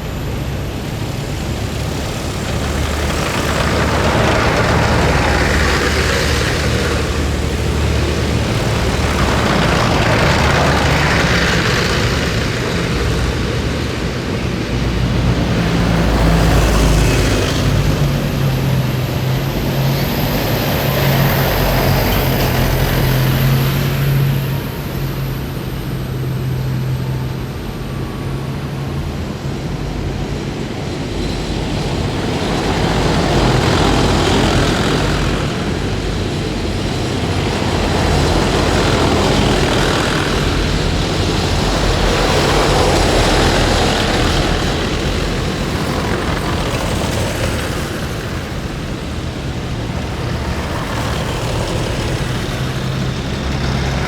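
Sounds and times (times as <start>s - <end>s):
heavy vehicles driving past: 0.0s - 54.0s.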